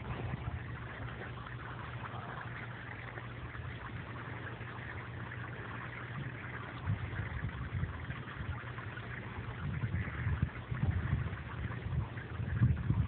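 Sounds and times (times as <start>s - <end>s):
low rumbles: 0.0s - 13.0s
steady low hum: 0.0s - 13.0s.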